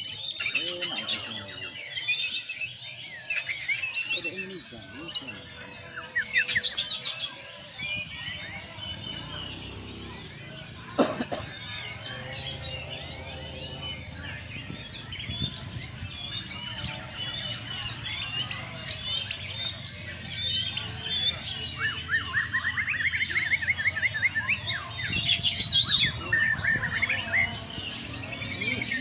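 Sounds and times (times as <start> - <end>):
songbirds singing and chirping: 0.0 - 29.0.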